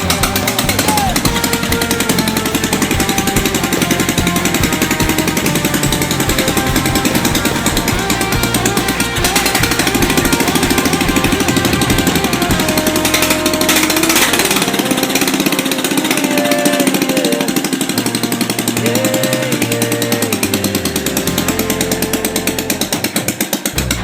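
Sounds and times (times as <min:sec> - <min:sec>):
rock music with guitar: 0:00.0 - 0:24.0
small engine running: 0:00.0 - 0:24.0.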